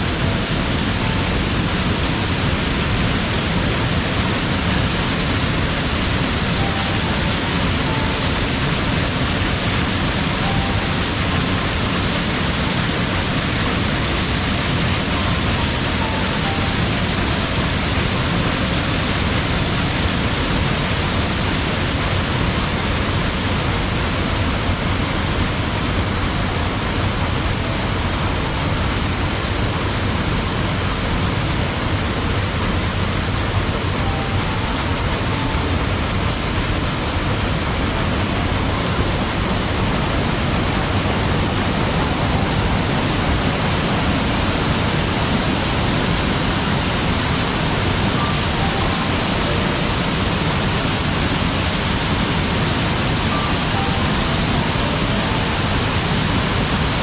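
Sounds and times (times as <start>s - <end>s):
waterfall rushing over rock: 0.0s - 57.0s.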